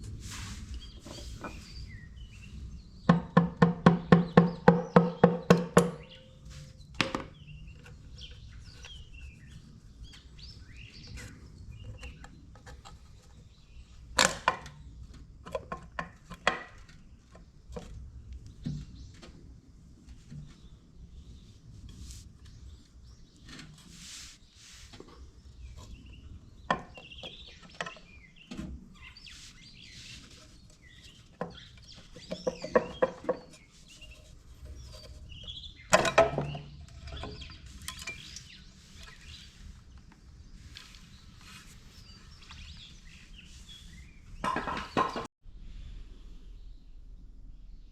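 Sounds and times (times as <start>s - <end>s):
birds chirping faintly: 0.1s - 45.3s.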